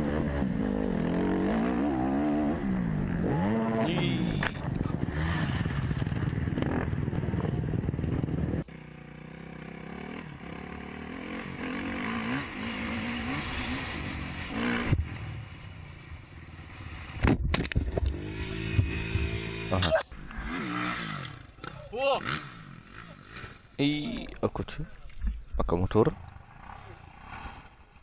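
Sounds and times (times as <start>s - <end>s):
dirt bike engine revving: 0.0s - 17.3s, 17.9s - 24.2s.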